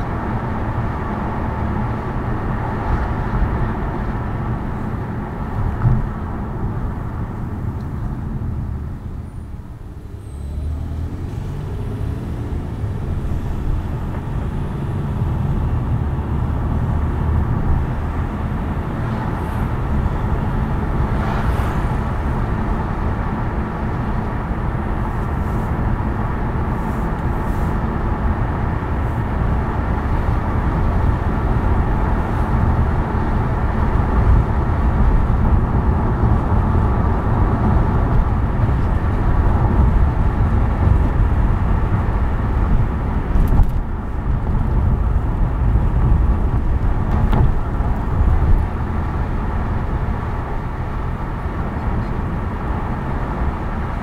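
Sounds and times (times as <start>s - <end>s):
car tyre and engine noise: 0.0s - 54.0s.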